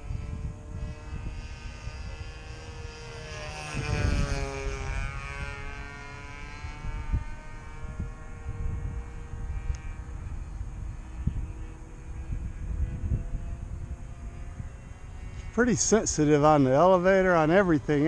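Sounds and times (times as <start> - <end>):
model airplane engine buzzing: 0.0 - 18.0
wind on microphone: 0.0 - 18.0.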